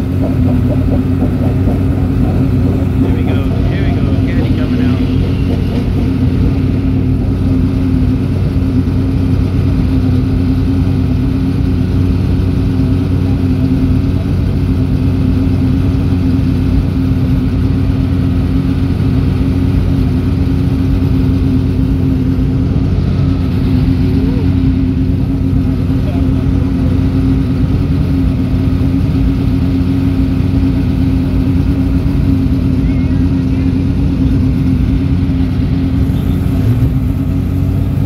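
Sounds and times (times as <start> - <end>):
race car engine idling: 0.0 - 38.0.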